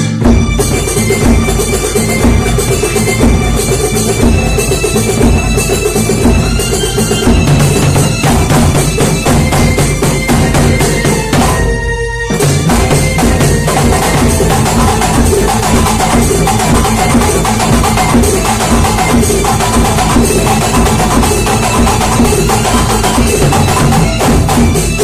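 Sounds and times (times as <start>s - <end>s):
fast percussion drumming: 0.0s - 25.0s
pitched instrument tones: 0.0s - 25.0s.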